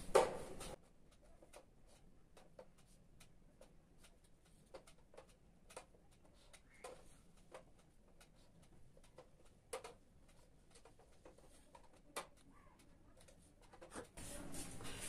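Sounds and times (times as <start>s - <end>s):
marker tapping on whiteboard: 1.5s - 14.1s.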